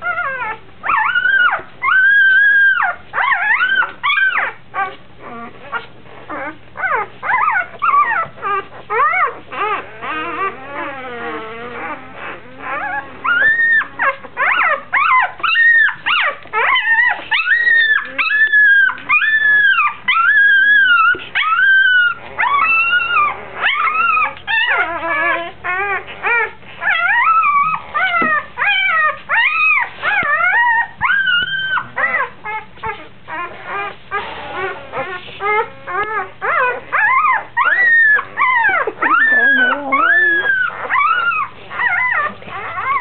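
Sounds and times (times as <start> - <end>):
puppy crying: 0.0 - 43.0.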